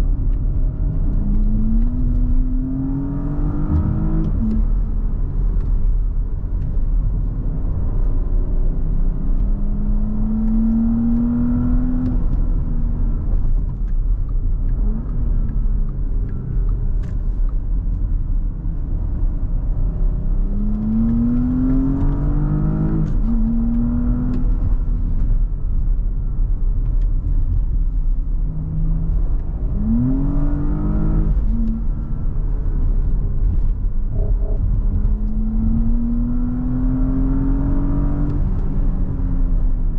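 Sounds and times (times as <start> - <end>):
car engine accelerating: 0.0 - 39.9
road rumble: 0.0 - 39.9.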